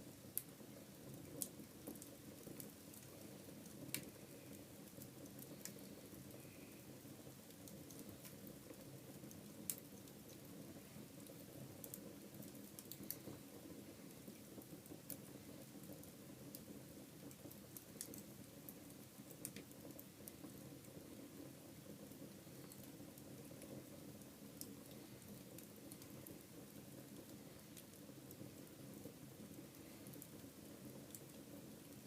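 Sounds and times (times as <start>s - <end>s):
wood fire crackling: 0.0s - 32.0s
sharp pops and ticks: 0.3s - 0.5s, 1.1s - 21.1s, 21.9s - 32.0s.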